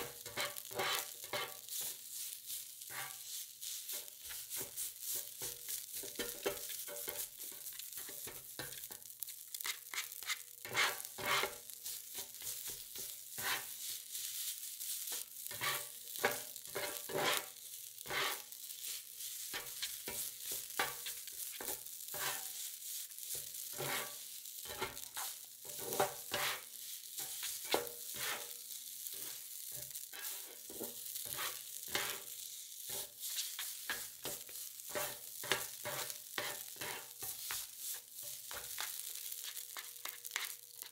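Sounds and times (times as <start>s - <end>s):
spatulas scraping and tapping plate: 0.0s - 2.0s, 2.8s - 13.9s, 15.1s - 22.6s, 23.3s - 32.3s, 32.9s - 40.9s
rice sizzling on hot plate: 0.0s - 40.9s.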